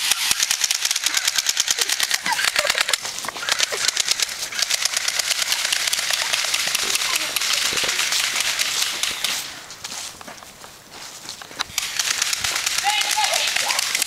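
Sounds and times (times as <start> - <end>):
rapid mechanical clicks: 0.0 - 9.5, 11.6 - 14.0.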